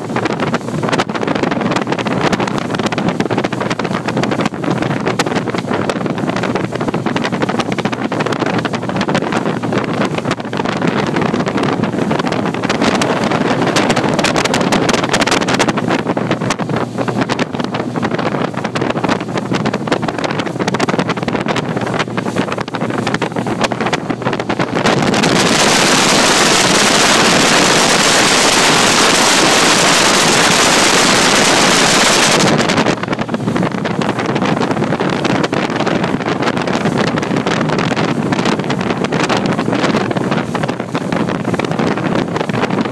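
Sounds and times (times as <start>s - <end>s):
outboard motor roaring: 0.0s - 42.9s
wind buffeting microphone: 0.0s - 42.9s.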